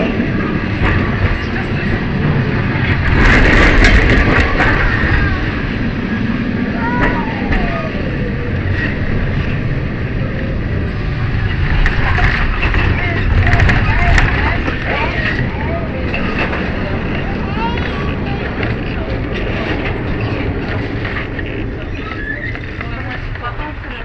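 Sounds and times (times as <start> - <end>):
passengers talking: 0.0 - 24.0
tram rumbling on rails: 0.0 - 24.0.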